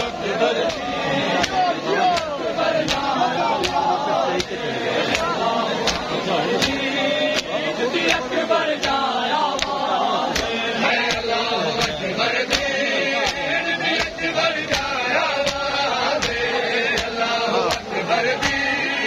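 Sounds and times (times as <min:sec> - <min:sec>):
men chanting: 0:00.0 - 0:19.0
men slapping their chests: 0:00.0 - 0:19.0.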